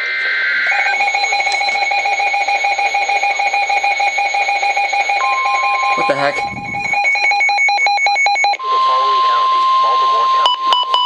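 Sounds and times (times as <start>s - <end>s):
rapidly pulsing electronic beep: 0.0s - 11.0s.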